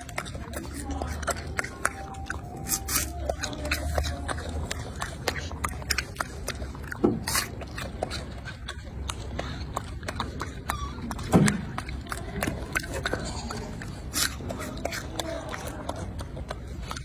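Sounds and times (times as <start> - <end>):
monkey crunching a pear: 0.0 - 17.0.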